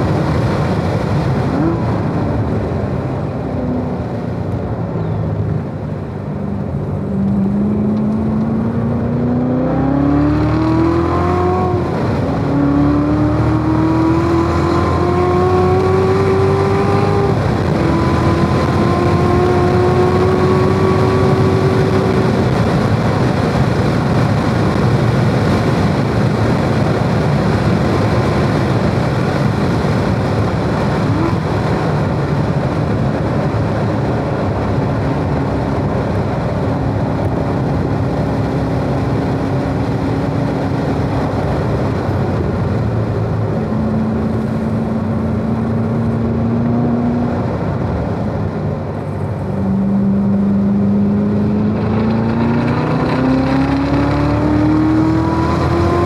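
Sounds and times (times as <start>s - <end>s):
car engine revving: 0.0s - 56.0s
wind and tyre noise: 0.0s - 56.0s.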